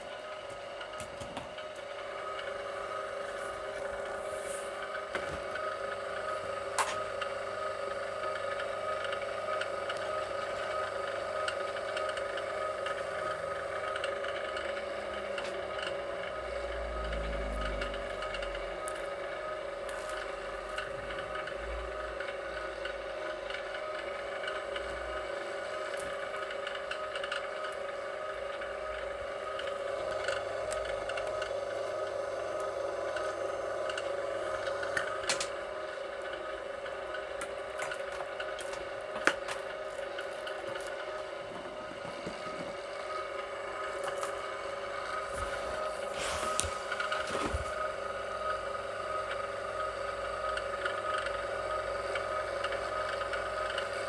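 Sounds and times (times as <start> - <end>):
wire-stripping machine motor hum: 0.0 - 54.0.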